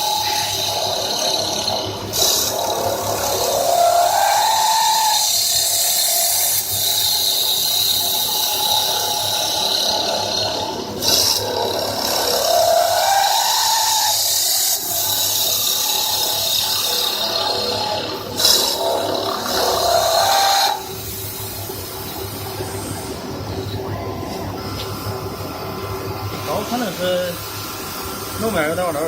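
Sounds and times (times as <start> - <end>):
wood lathe cutting wood: 0.0 - 29.0.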